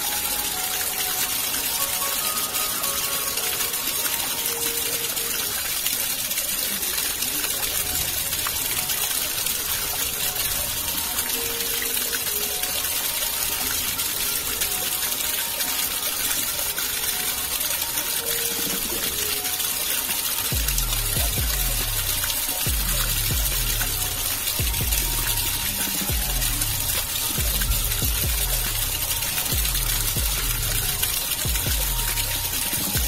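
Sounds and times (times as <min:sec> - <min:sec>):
water gushing and splashing: 0:00.0 - 0:33.0.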